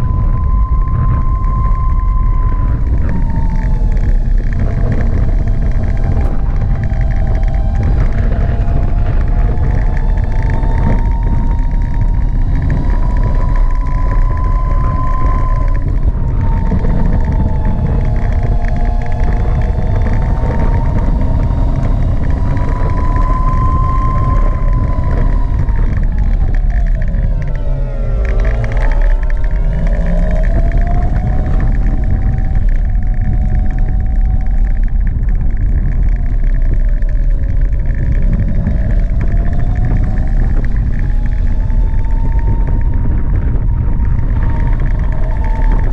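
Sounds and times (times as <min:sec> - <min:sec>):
electric scooter motor whining: 0:00.0 - 0:45.9
road rumble: 0:00.0 - 0:45.9
wind noise: 0:00.0 - 0:45.9.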